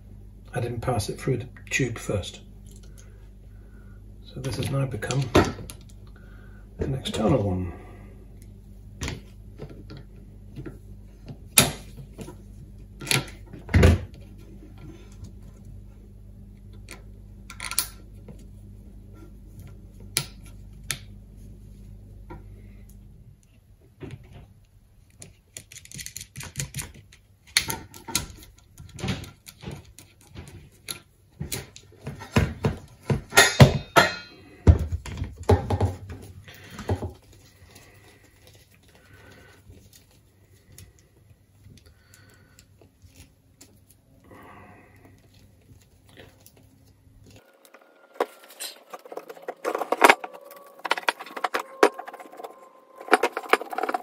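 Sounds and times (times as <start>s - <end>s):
low steady hum: 0.0s - 25.4s, 27.2s - 54.0s.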